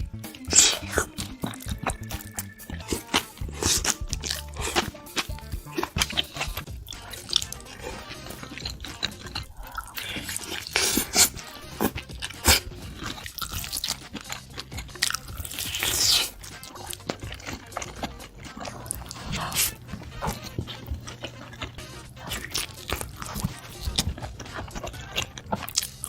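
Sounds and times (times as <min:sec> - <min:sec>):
background music: 0:00.0 - 0:26.0
crunchy chewing of food: 0:00.0 - 0:26.0.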